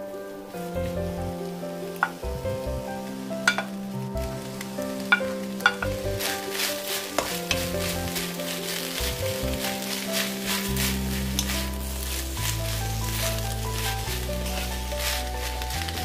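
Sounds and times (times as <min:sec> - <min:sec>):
wooden spatula stirring: 0:00.8 - 0:16.0
food sizzling in oil: 0:03.0 - 0:16.0.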